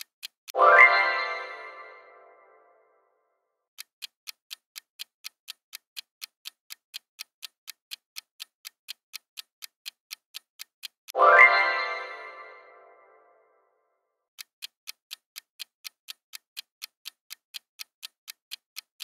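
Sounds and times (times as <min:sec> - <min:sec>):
clock-like timer ticks: 0:00.0 - 0:02.1, 0:03.7 - 0:13.1, 0:14.3 - 0:19.0.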